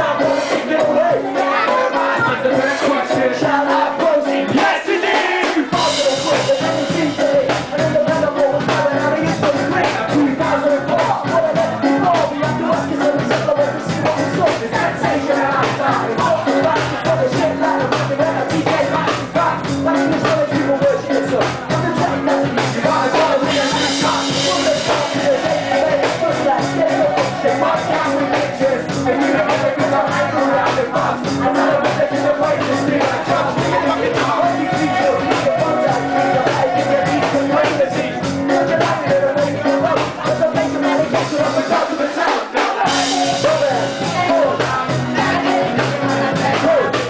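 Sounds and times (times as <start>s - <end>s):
drums: 0.0s - 47.0s
man singing into a microphone: 0.0s - 47.0s
ska-punk band playing live: 0.0s - 47.0s.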